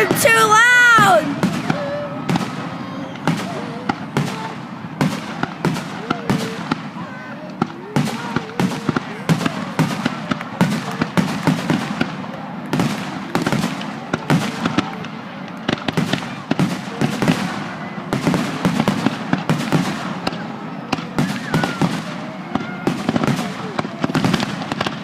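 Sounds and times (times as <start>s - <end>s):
faint voices of onlookers: 0.0s - 25.0s
fireworks bangs and crackles: 0.0s - 25.0s.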